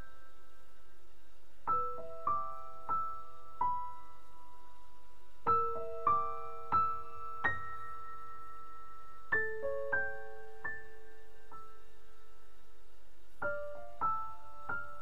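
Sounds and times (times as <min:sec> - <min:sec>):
gentle piano melody: 0:00.0 - 0:00.8, 0:01.6 - 0:15.0.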